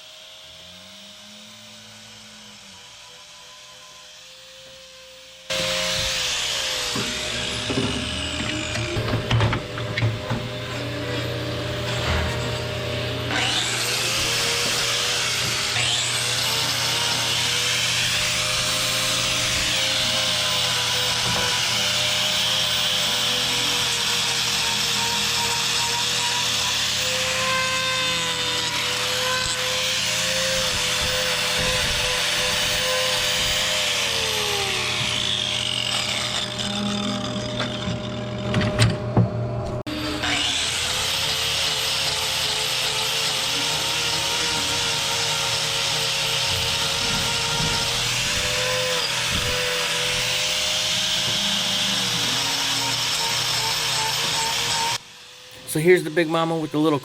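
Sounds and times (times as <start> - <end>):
angle grinder cutting hoof: 0.0 - 57.0.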